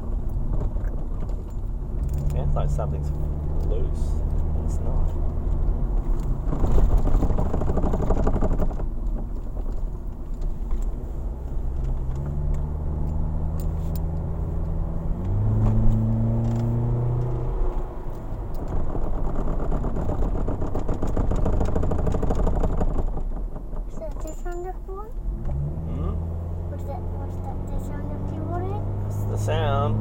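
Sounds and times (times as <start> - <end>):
car road noise: 0.0 - 30.0.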